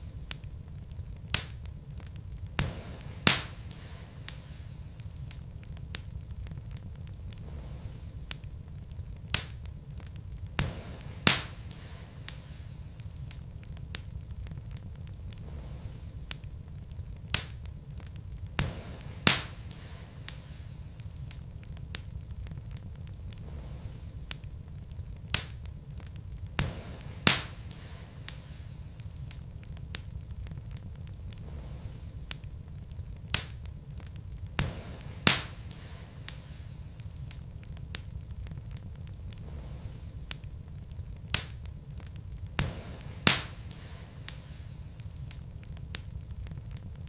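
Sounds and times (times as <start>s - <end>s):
burning logs crackling and popping: 0.0s - 47.0s
fire rumbling in fireplace: 0.0s - 47.0s.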